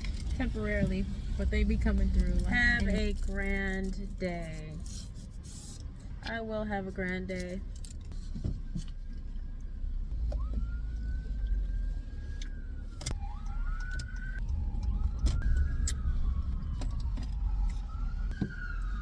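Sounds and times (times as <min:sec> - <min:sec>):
car road rumble in cabin: 0:00.0 - 0:19.0.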